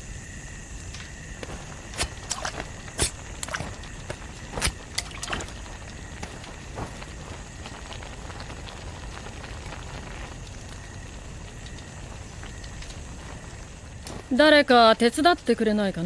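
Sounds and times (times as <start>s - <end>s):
stew bubbling in a pot: 0.2s - 15.6s
faint ticks: 0.8s - 14.3s.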